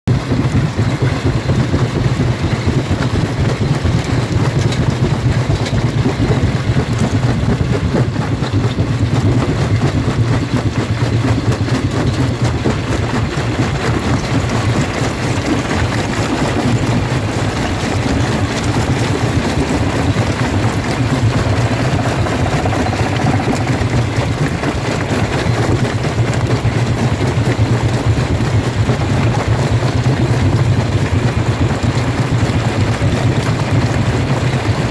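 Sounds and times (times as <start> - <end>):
rock crusher machine hum: 0.1 - 34.9.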